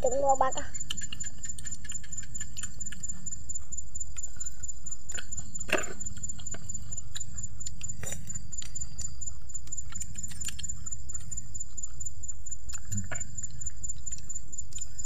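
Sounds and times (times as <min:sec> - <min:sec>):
chewing and mouth clicks: 0:00.0 - 0:15.0
high pulsing whine: 0:00.0 - 0:15.0.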